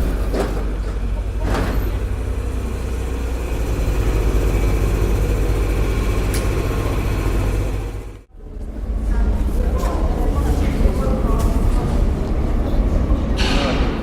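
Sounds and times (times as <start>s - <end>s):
train rumble with motor hum: 0.0s - 14.0s.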